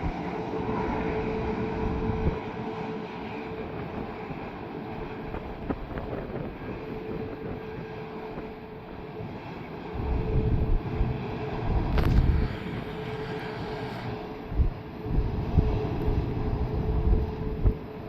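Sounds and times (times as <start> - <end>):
distant jet engines whining: 0.0 - 18.0
wind buffeting microphone: 0.0 - 18.0.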